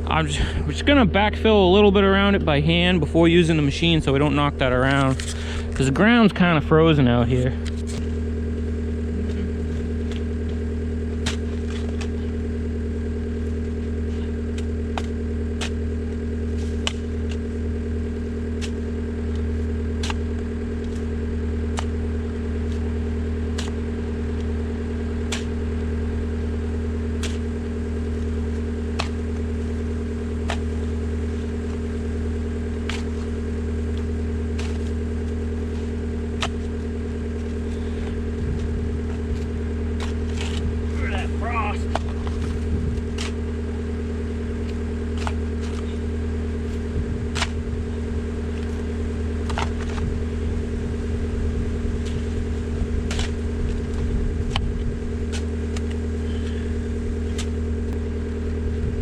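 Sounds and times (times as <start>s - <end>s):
digging machine engine idling: 0.0s - 59.0s.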